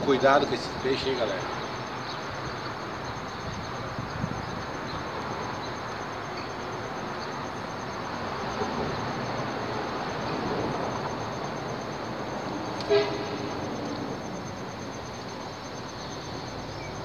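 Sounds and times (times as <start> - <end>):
traffic rumble over bridge: 0.0 - 17.0.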